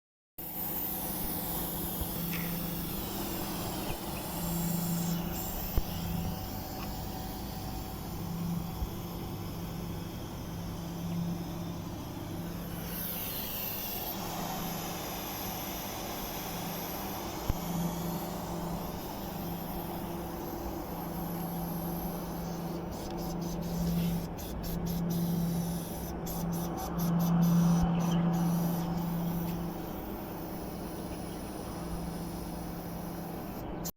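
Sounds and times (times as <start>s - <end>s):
air conditioner humming: 0.4s - 33.9s.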